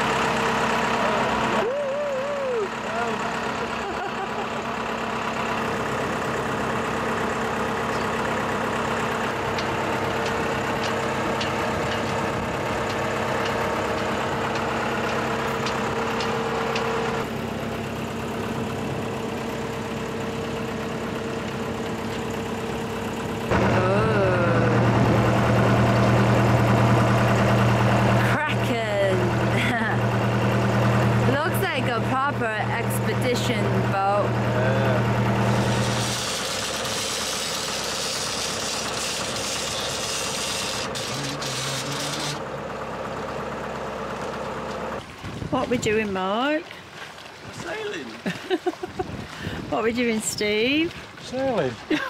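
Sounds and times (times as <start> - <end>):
boat diesel engine running: 0.0 - 52.0.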